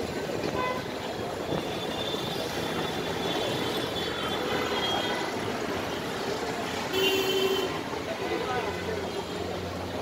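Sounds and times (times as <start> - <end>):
busy street traffic: 0.0 - 10.0.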